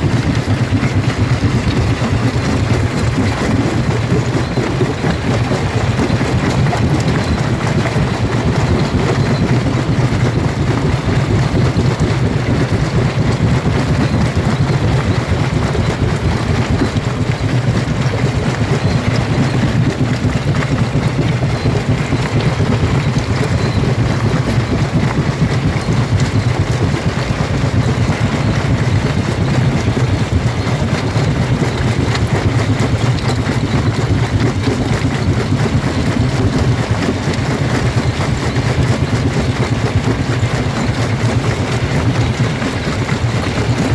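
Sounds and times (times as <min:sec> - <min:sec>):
rock crusher crushing stone: 0:00.0 - 0:43.9.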